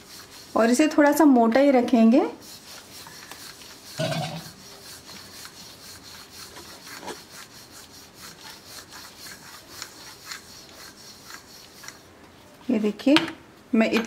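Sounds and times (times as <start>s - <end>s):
rolling pin scraping dough: 0.0s - 13.1s.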